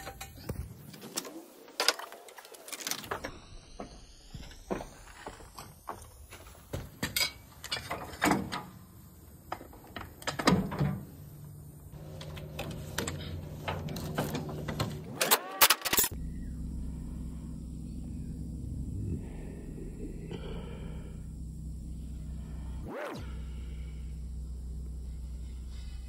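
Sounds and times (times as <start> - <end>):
steady low hum: 3.2 - 15.2, 15.9 - 26.0.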